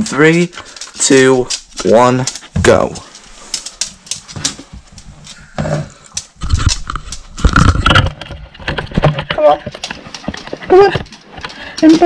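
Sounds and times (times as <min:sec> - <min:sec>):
dog claws clicking on hard floor: 0:00.0 - 0:12.0.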